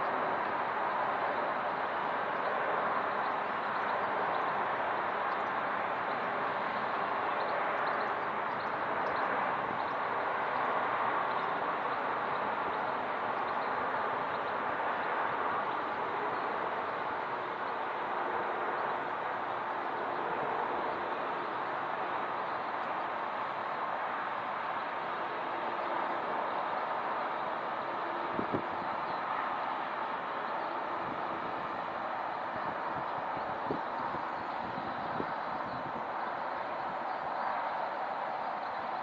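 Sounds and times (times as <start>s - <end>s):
airliner jet noise overhead: 0.0s - 39.0s.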